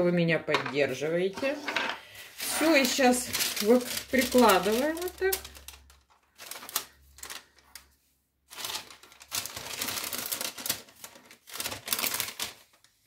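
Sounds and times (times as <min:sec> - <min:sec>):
parchment paper crinkling: 0:02.2 - 0:13.0.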